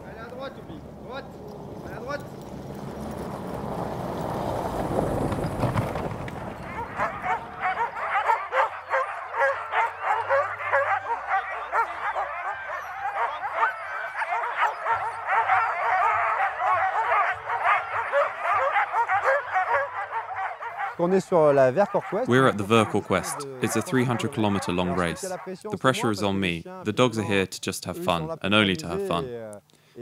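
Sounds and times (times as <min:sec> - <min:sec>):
sled dogs barking and yelping: 0:00.0 - 0:29.3.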